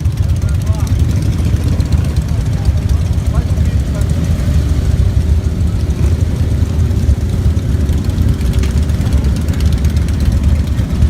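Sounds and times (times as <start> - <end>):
many motorcycle engines rumbling: 0.0 - 11.0.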